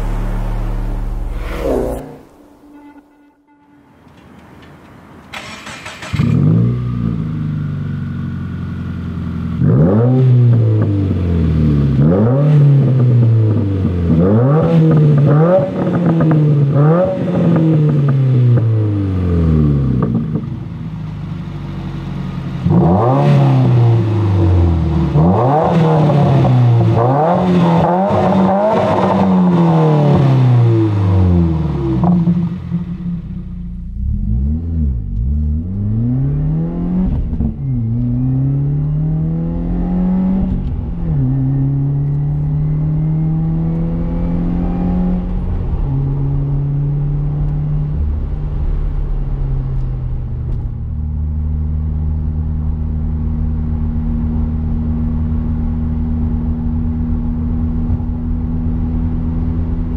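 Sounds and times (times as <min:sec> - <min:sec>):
car engine revving: 0:00.0 - 0:03.9, 0:05.3 - 0:59.9.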